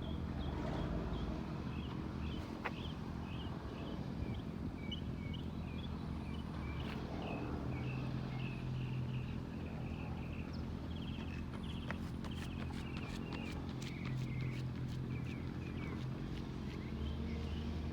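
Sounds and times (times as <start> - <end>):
small birds chirping: 1.1 - 17.9.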